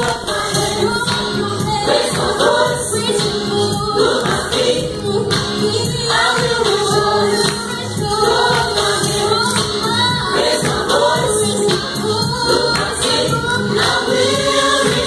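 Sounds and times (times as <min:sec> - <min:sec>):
band playing gospel music: 0:00.0 - 0:15.0
vocal group singing in harmony: 0:00.0 - 0:15.0.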